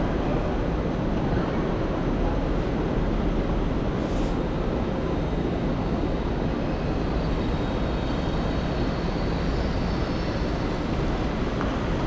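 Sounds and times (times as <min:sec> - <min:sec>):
low din of trains: 0:00.0 - 0:12.0.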